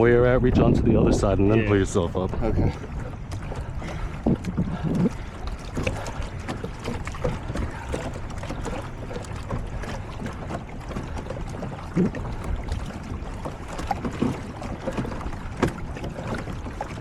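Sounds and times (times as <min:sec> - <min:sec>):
water lapping against kayak: 0:00.0 - 0:17.0
wind on microphone: 0:00.0 - 0:17.0.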